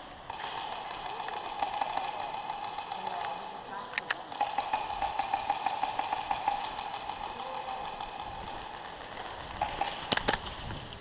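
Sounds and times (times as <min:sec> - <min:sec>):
airsoft guns firing full auto: 0:00.2 - 0:11.0.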